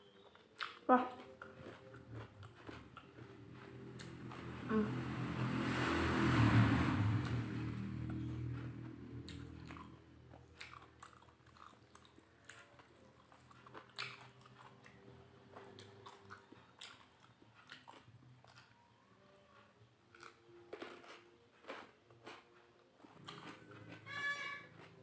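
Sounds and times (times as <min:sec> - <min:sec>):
biting and chewing food: 0:00.0 - 0:04.6, 0:07.2 - 0:25.0.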